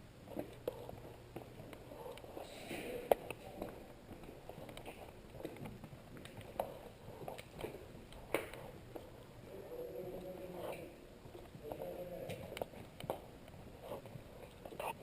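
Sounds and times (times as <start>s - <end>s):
footsteps: 0.2s - 15.0s.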